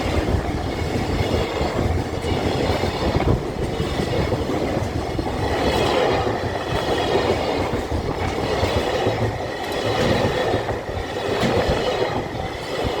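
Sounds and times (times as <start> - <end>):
train rumbling on track: 0.0 - 13.0
wheels clicking over rail joints: 0.0 - 13.0.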